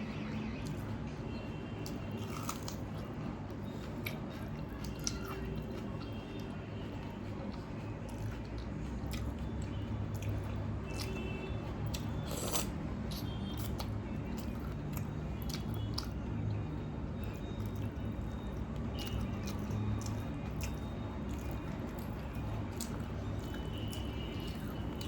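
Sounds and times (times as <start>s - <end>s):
wet squishing and chewing: 0.0s - 25.0s.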